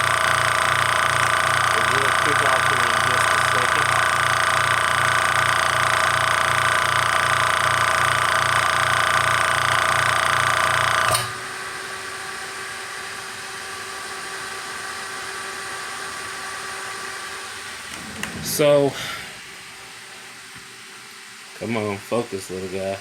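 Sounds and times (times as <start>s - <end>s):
air compressor pulsing: 0.0s - 20.4s
cooling fans whirring: 0.0s - 23.0s.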